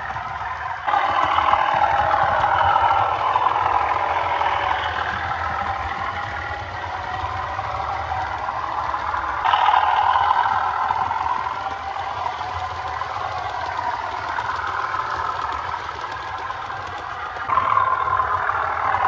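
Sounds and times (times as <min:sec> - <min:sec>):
diesel engine from small speaker: 0:00.0 - 0:19.0.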